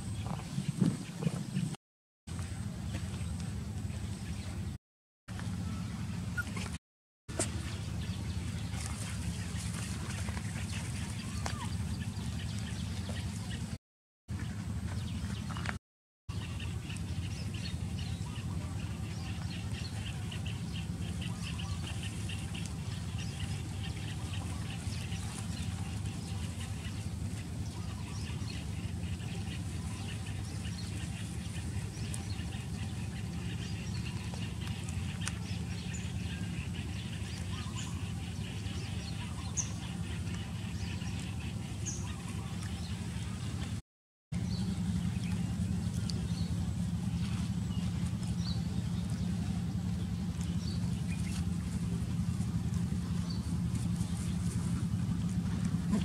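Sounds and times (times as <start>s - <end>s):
birds calling: 0.0s - 43.8s, 44.4s - 56.0s
steady low hum: 0.0s - 43.8s, 44.4s - 56.0s.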